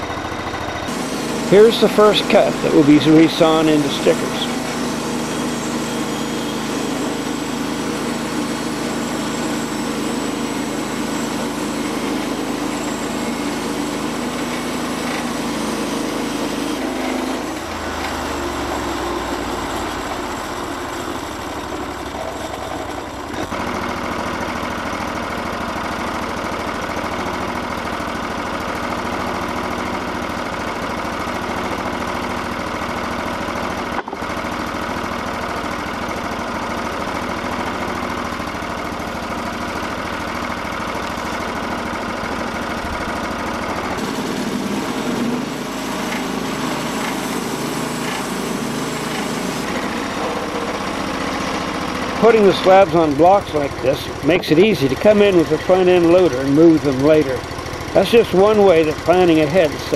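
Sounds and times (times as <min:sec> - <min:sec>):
gasoline engine running: 0:00.0 - 0:59.9
band saw blade cutting log: 0:00.9 - 0:24.0, 0:33.7 - 0:59.9.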